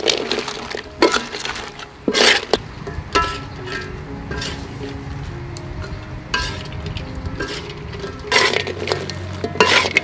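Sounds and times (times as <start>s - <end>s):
chips scraping and rattling in wok: 0.0s - 5.0s, 6.3s - 10.0s
metal spatula stirring in wok: 0.0s - 5.0s, 5.8s - 10.0s.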